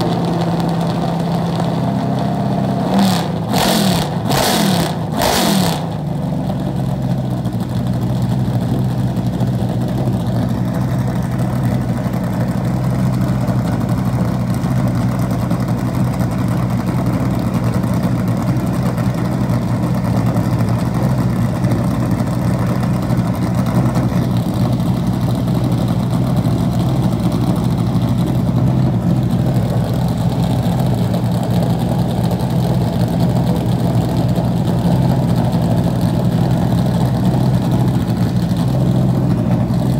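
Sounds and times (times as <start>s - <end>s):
race car engine idling: 0.0s - 39.9s.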